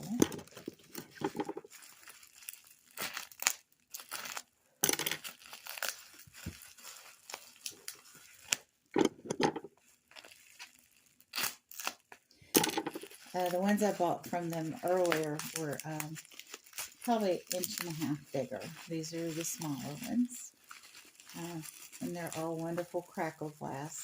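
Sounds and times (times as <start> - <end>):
wrap tearing: 0.0 - 4.5, 5.2 - 8.7, 9.8 - 12.2, 12.9 - 23.5
packing wrap rustling and crinkling: 0.0 - 4.6, 5.2 - 8.7, 9.6 - 24.0.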